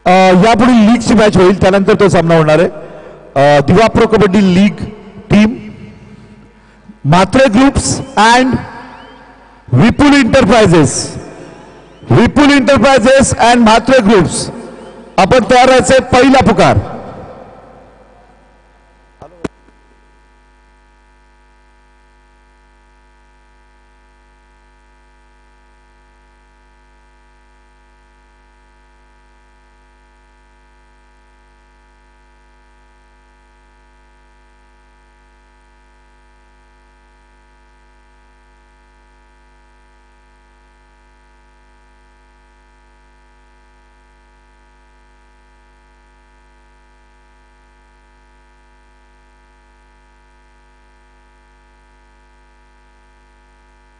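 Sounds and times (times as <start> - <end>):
electrical mains hum: 0.0 - 53.9.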